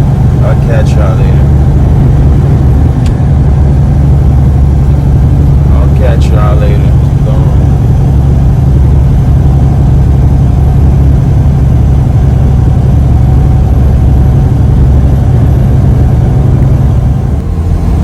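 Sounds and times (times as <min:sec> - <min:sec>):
truck diesel engine drone: 0:00.0 - 0:18.0.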